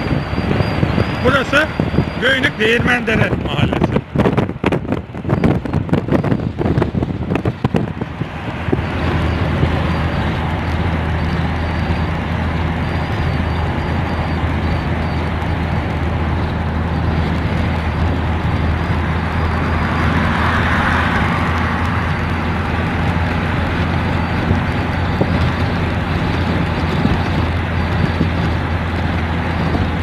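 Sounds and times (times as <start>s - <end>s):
low engine drone: 0.0s - 30.0s
tyre and wind noise: 0.0s - 30.0s.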